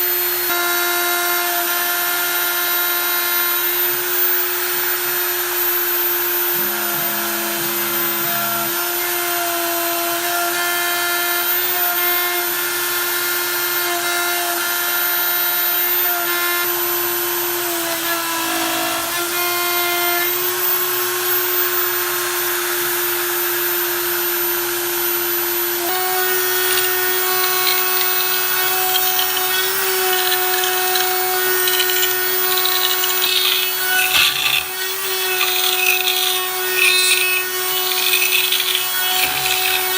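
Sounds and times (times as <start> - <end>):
cnc router milling plastic: 0.0 - 39.9.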